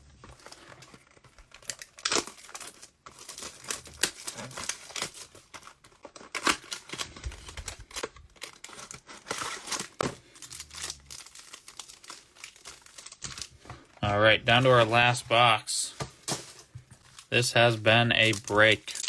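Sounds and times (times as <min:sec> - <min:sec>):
packaging crinkling and tearing: 0:00.2 - 0:19.0.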